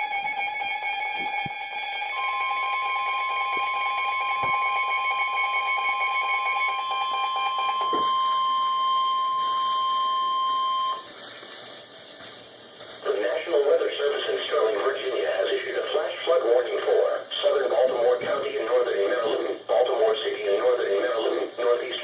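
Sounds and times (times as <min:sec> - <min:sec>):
steady high alarm tone: 0:00.0 - 0:11.9, 0:13.0 - 0:22.0
low rough alarm tone: 0:00.0 - 0:12.1, 0:13.0 - 0:22.0.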